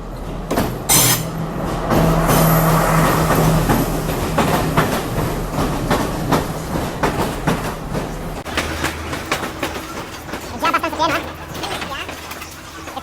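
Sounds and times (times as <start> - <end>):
train wheels clacking on rails: 0.0 - 13.0.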